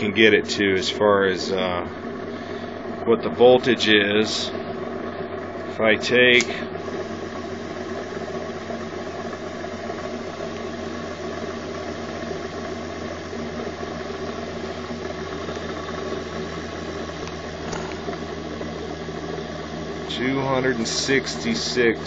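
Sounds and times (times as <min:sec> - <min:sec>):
pulse motor humming: 0:00.0 - 0:22.0
spinning wheel whir: 0:02.9 - 0:22.0.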